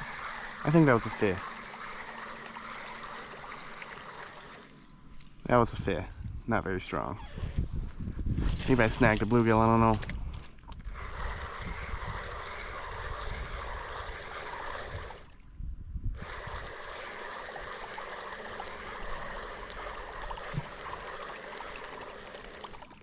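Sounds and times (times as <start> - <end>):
fishing reel whirring: 0.0 - 15.4, 16.1 - 23.0.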